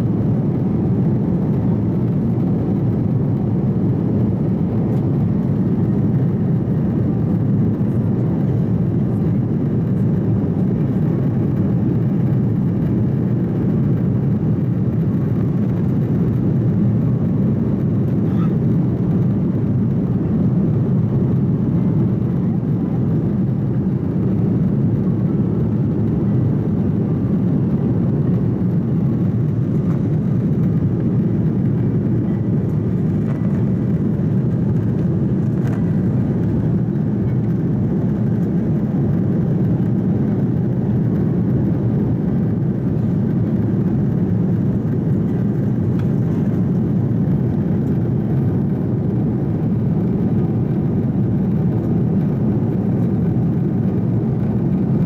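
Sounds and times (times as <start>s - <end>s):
jet engine and airflow rush: 0.0s - 55.0s.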